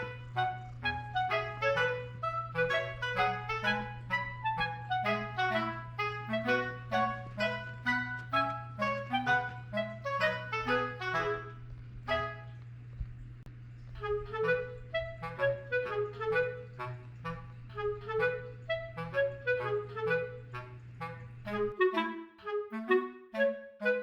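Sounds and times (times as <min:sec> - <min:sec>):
bouncy background music: 0:00.0 - 0:12.5, 0:14.0 - 0:24.0
steady low hum: 0:00.0 - 0:22.4.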